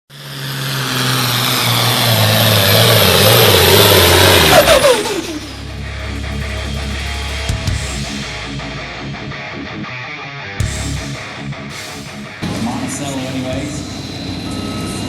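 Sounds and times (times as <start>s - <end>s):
tractor diesel engine revving: 0.1s - 9.4s, 10.6s - 15.0s.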